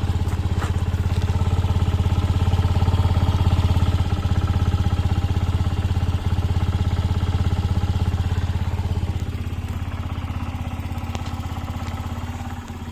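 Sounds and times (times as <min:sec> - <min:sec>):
scooter engine idling: 0:00.0 - 0:12.9.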